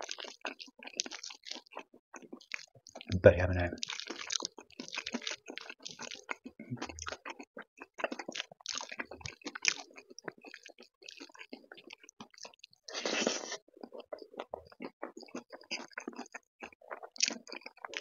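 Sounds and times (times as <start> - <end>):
close chewing: 0.0 - 18.0.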